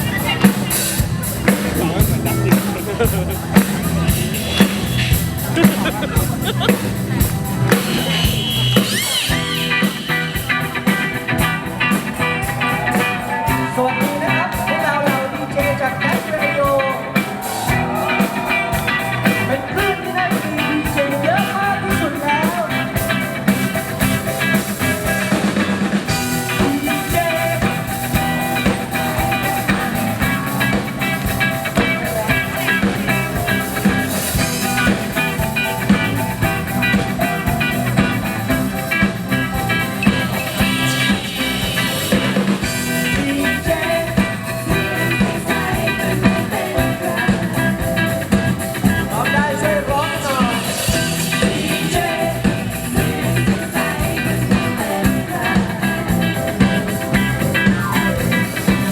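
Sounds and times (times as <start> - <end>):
loud rock music: 0.0 - 58.9
sung melody: 0.0 - 58.9.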